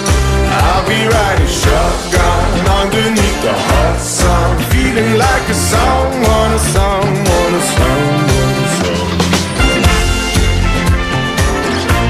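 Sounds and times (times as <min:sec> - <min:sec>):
instrumental music with drum beat: 0:00.0 - 0:12.0.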